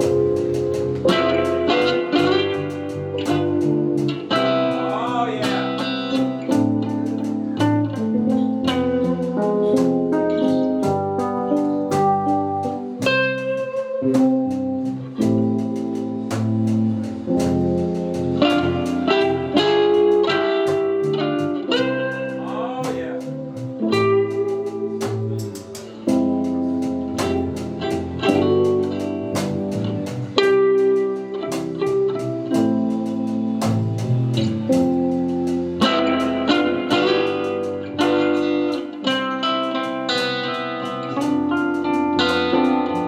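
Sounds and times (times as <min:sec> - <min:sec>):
live band with plucked guitar: 0:00.0 - 0:43.0.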